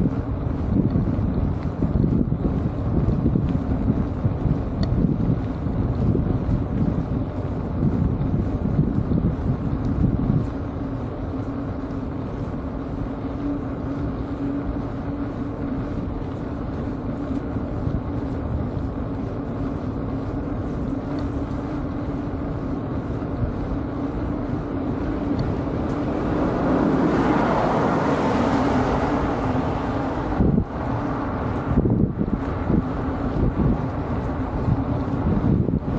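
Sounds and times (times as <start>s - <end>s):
bicycle rolling on asphalt: 0.0s - 35.9s
constant low hum: 0.0s - 35.9s
van road noise: 0.0s - 35.9s.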